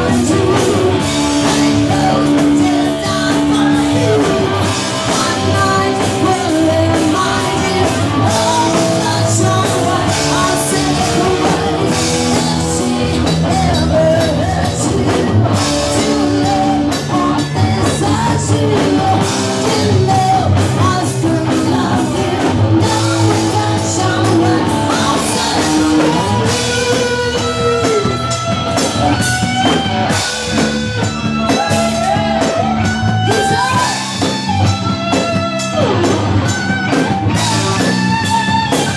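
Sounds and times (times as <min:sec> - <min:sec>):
live rock band playing: 0:00.0 - 0:38.9
person singing: 0:00.0 - 0:38.9.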